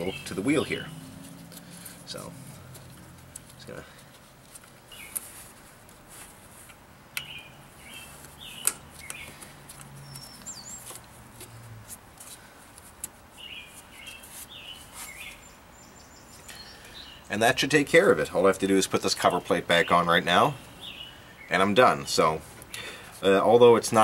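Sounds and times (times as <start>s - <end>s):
birds chirping: 0.0s - 5.7s, 7.1s - 11.6s, 13.3s - 24.0s.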